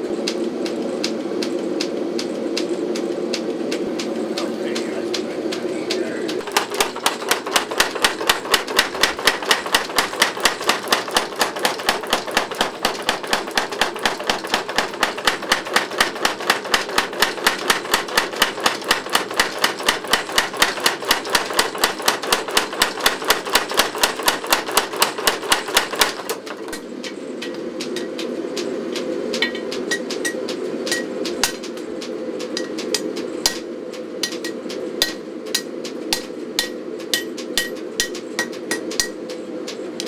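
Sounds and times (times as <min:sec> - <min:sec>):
power hammer pounding steel: 0:04.8 - 0:28.2, 0:29.3 - 0:39.3.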